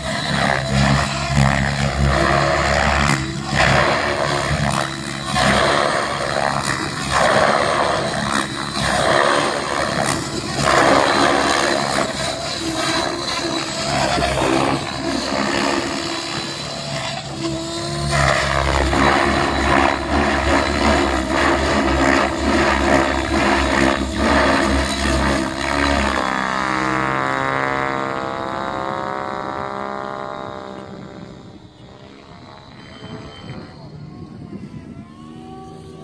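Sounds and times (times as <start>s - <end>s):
model helicopter rotor and motor: 0.0s - 36.0s.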